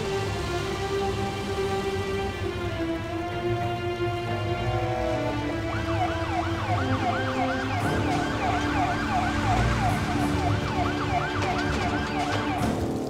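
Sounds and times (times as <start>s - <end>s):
fire engine siren yelp: 0.0s - 12.8s.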